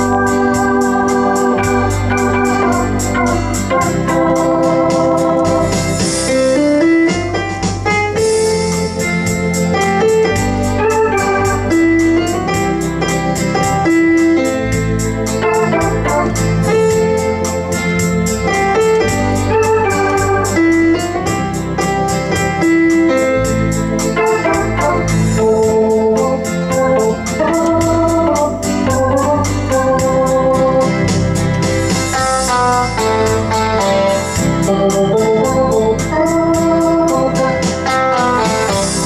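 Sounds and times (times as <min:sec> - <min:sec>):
electronic organ playing rock-pop tune: 0:00.0 - 0:39.0.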